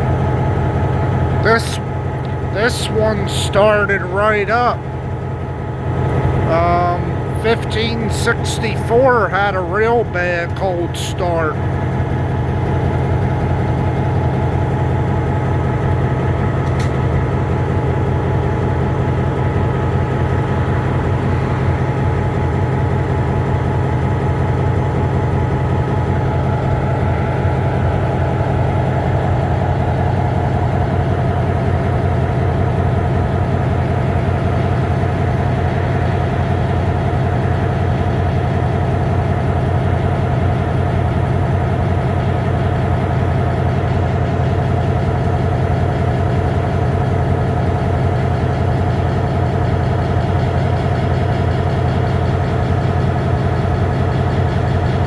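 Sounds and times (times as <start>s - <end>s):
diesel locomotive idling: 0.0s - 55.0s.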